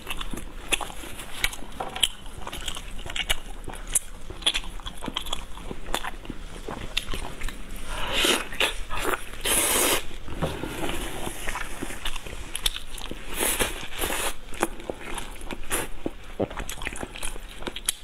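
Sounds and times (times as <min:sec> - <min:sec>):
wet chewing of meat: 0:00.0 - 0:18.0.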